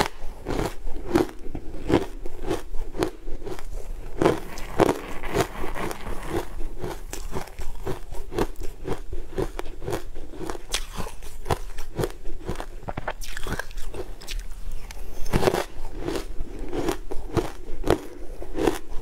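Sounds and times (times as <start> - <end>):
ice crunching while chewed: 0.0 - 19.0.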